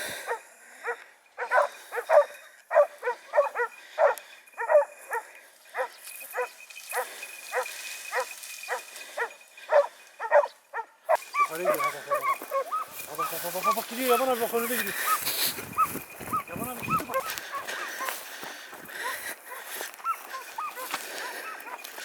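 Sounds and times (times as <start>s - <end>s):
dogs barking: 0.2s - 22.0s.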